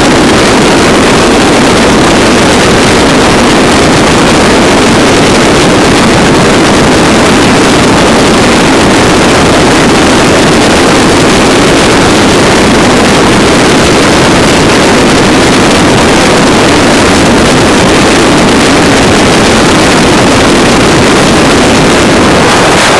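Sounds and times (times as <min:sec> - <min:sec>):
engine and road noise: 0:00.0 - 0:22.9
wind rushing on microphone: 0:00.0 - 0:22.9.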